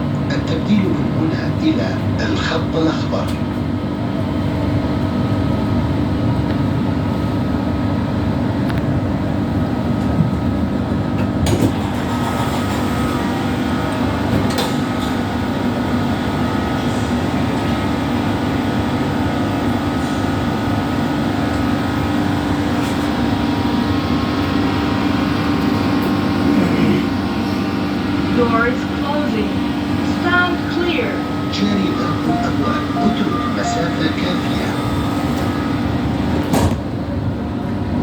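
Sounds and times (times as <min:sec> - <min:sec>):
train rumble and hum: 0:00.0 - 0:38.0.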